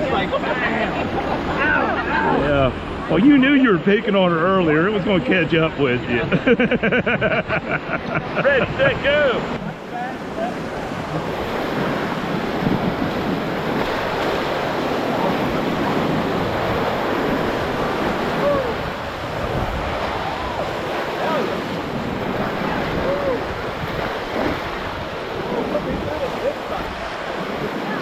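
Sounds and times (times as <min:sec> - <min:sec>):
whitewater rapids rushing: 0:00.0 - 0:06.5, 0:07.4 - 0:28.0.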